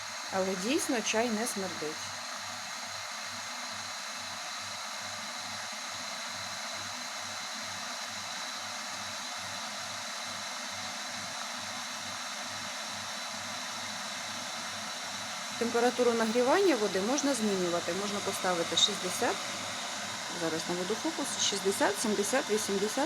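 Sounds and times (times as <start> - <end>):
electric kettle heating water: 0.0 - 23.0.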